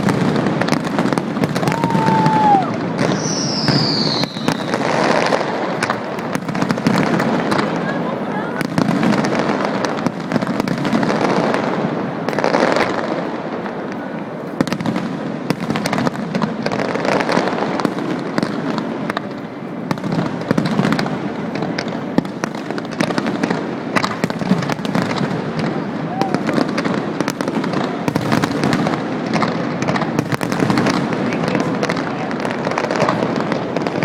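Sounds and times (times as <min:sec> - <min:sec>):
fireworks cracking and banging: 0:00.0 - 0:34.0.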